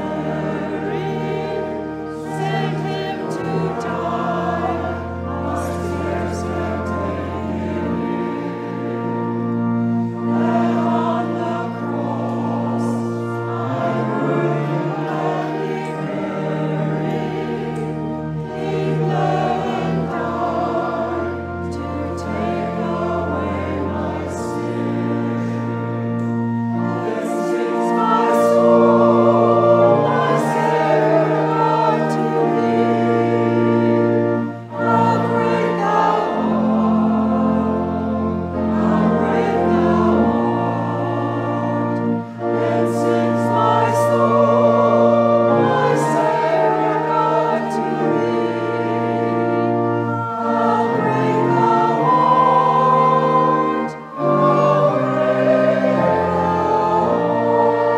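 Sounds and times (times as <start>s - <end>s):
choir singing a hymn: 0.0s - 57.9s
held organ chords: 0.0s - 57.9s.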